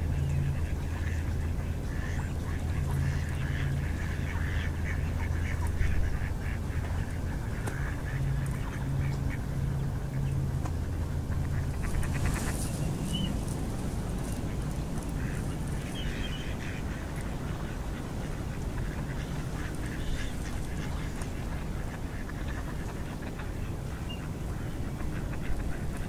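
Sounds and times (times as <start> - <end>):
ducks quacking: 0.0 - 26.0
steady low rumble: 0.0 - 26.0.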